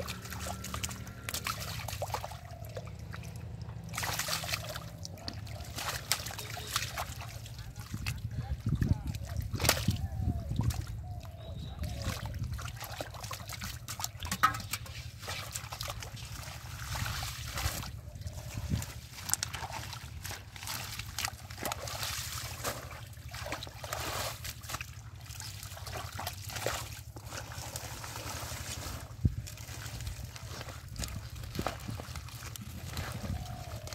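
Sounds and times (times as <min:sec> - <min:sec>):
hands splashing in muddy water: 0:00.0 - 0:33.9
water dripping and trickling: 0:00.0 - 0:33.9.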